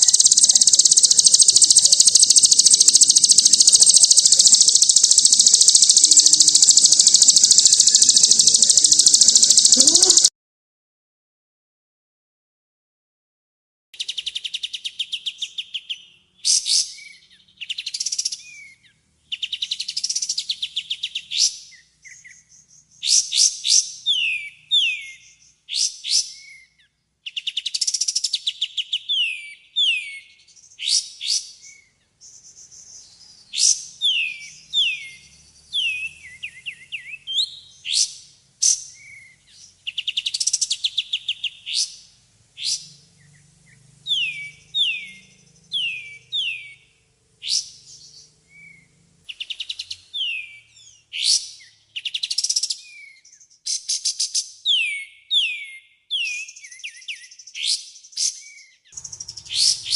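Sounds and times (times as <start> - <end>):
bird singing varied song: 0.0 - 10.3, 14.0 - 59.9.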